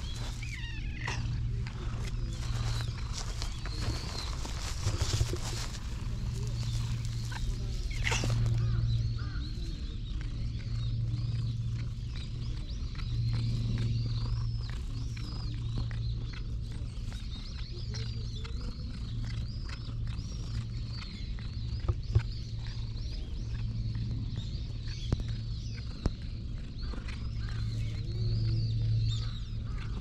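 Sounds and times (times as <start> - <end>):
cat purring: 0.0 - 30.0
small birds chirping: 0.0 - 30.0.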